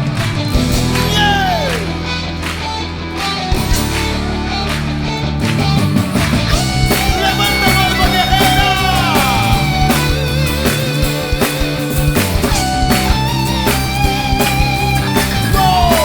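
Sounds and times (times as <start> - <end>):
gospel rock band playing: 0.0 - 16.0.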